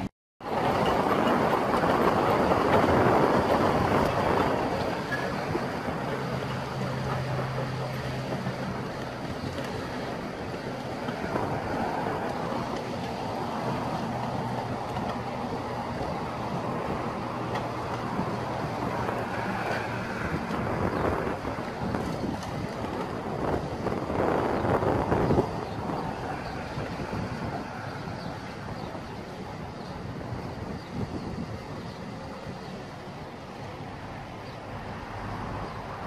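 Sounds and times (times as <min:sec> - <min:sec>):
excavator diesel engines running: 0:00.0 - 0:36.0
wind buffeting microphone: 0:00.0 - 0:36.0.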